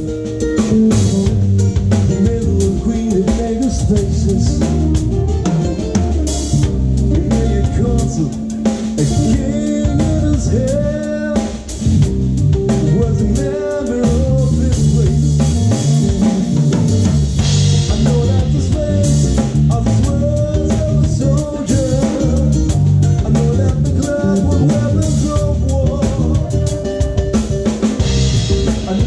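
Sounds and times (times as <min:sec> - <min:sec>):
acoustic guitar: 0:00.0 - 0:29.0
drum kit: 0:00.0 - 0:29.0
electric bass: 0:00.0 - 0:29.0
wavering lead melody: 0:00.0 - 0:29.0.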